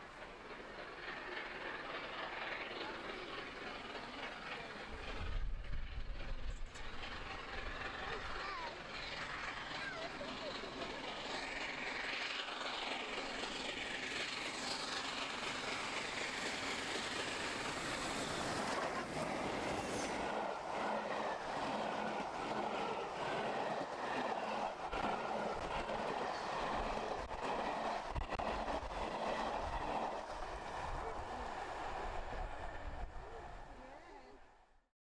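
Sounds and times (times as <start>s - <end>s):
train wheels clattering: 0.0s - 33.2s
steam locomotive passing: 0.0s - 34.8s.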